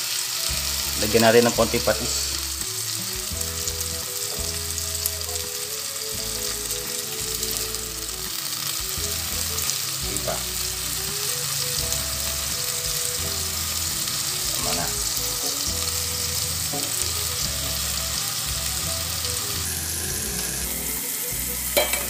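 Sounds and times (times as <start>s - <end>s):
quiet background music: 0.0s - 22.0s
vegetables sizzling in oil: 0.0s - 22.0s.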